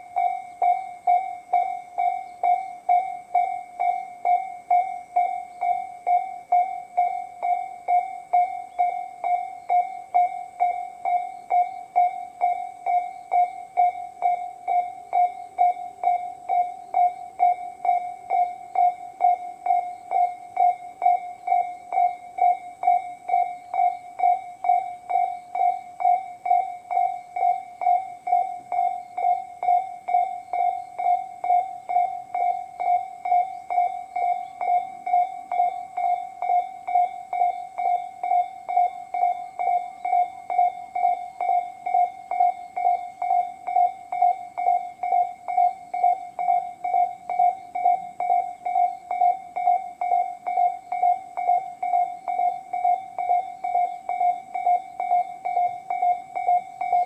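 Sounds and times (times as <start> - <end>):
level-crossing warning bells: 0.0 - 57.0.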